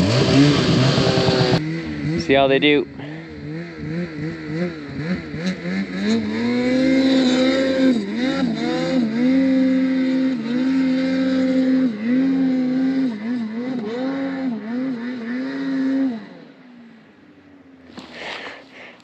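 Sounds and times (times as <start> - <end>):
snowmobile engine revving: 0.0 - 16.8, 17.9 - 19.0.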